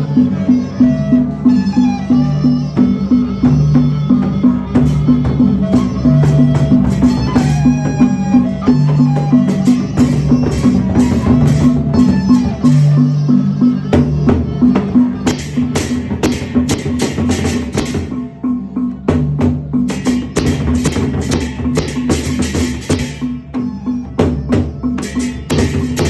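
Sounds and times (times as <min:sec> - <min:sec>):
drum and percussion strokes: 0:00.0 - 0:26.0.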